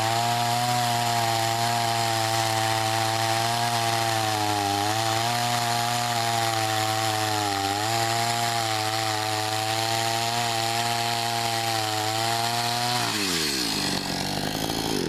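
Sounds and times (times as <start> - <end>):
chainsaw sawing through log: 0.0 - 15.0.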